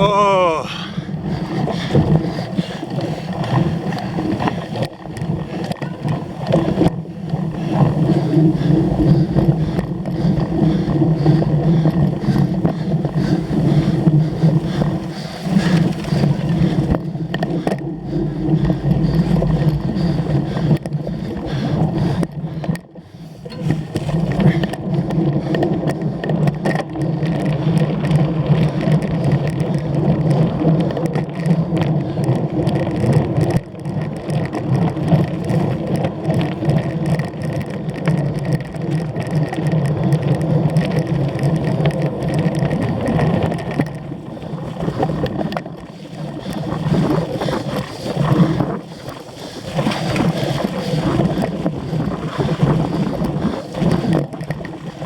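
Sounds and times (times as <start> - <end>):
bike rattling and clicking: 0.0 - 55.0
wind rushing over microphone: 0.0 - 55.0.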